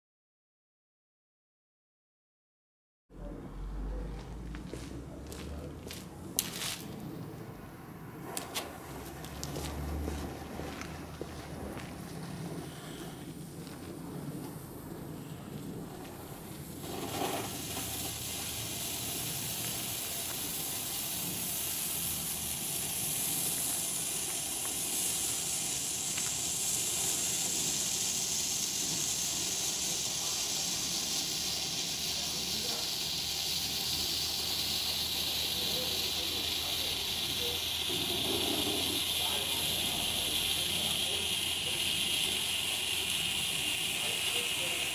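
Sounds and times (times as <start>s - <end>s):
firework hissing: 4.4s - 44.9s.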